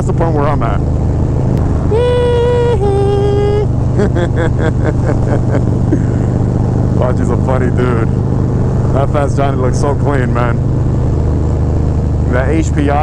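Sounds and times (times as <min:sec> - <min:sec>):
voices: 0:00.0 - 0:00.9, 0:01.6 - 0:10.7, 0:12.2 - 0:13.0
motorcycles cruising: 0:00.0 - 0:13.0.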